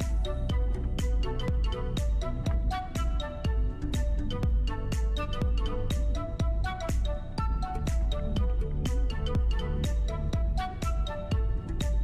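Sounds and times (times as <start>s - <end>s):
electronic music: 0.0s - 12.0s
steady kick drum: 0.0s - 12.0s.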